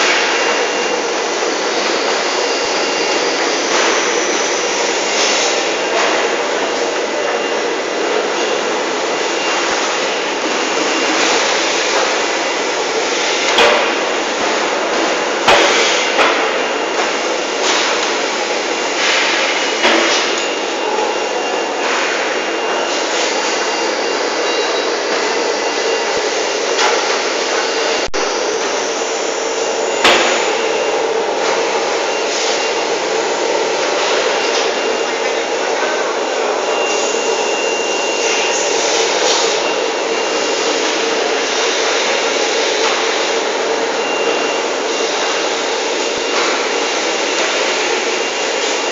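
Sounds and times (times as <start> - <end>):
steady machinery noise: 0.0 - 48.9.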